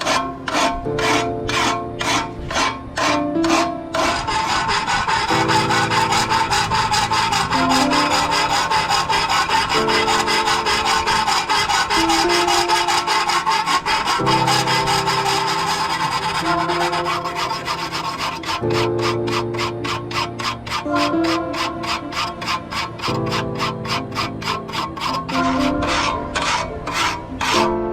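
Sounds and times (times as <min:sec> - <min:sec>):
background music: 0:00.0 - 0:27.9
rasping on metal: 0:00.0 - 0:27.9.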